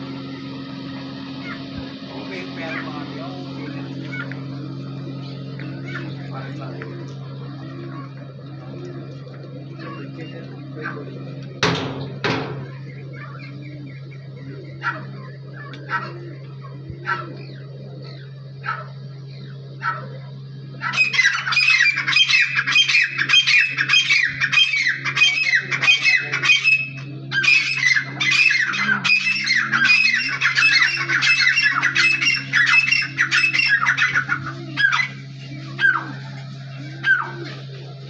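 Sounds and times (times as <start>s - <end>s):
caged birds squawking: 0.0s - 38.0s
steady low hum: 0.0s - 38.0s.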